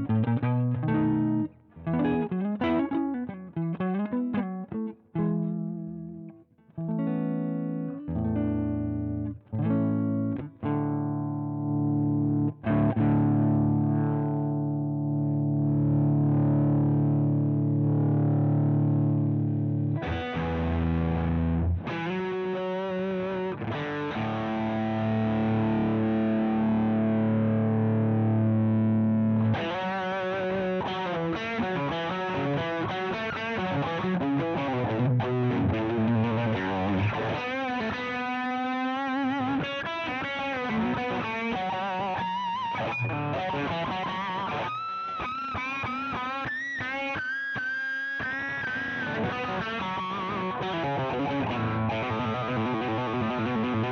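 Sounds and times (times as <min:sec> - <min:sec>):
distorted electric guitar: 0:00.0 - 0:53.9.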